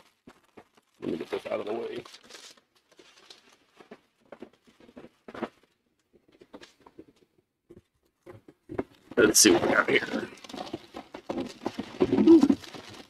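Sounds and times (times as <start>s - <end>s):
packing wrap rustling: 0.0s - 7.1s, 9.2s - 13.0s.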